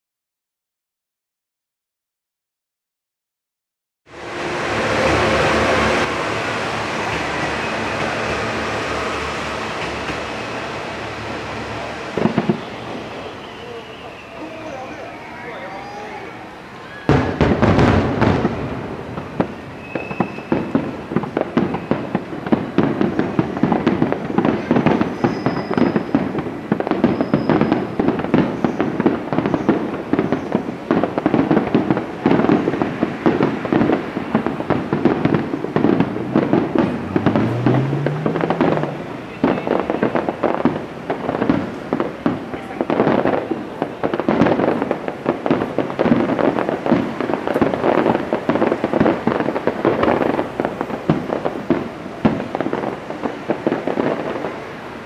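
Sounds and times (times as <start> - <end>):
fireworks booming and crackling: 4.1 - 55.0.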